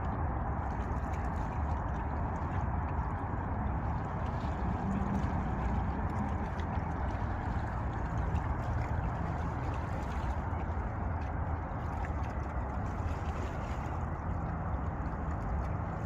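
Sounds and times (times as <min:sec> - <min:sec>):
low rumble: 0:00.0 - 0:16.0
water rushing: 0:00.0 - 0:16.0
wind: 0:00.0 - 0:16.0.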